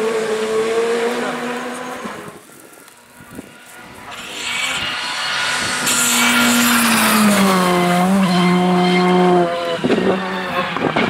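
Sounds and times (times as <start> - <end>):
rally car engine high revs: 0.0 - 2.4, 3.8 - 11.0.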